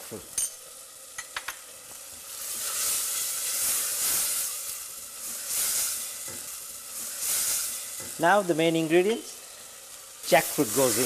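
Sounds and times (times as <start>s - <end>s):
curry sizzling in a saucepan: 0.0s - 11.0s.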